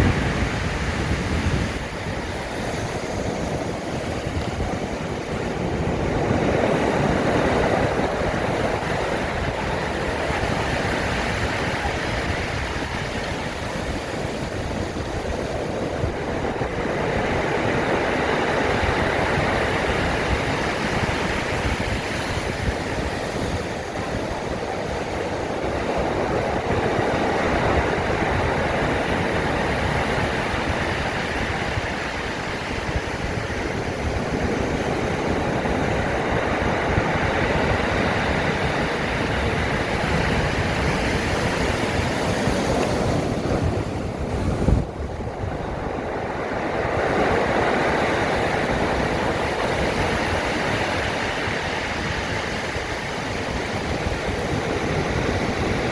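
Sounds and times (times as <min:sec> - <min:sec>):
surf breaking on shore: 0:00.0 - 0:55.9
wind on microphone: 0:00.0 - 0:55.9.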